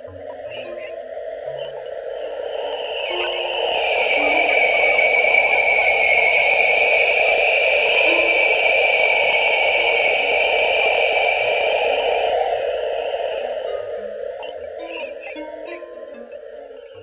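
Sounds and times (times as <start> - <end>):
hissing electronic wash: 0.0 - 17.0.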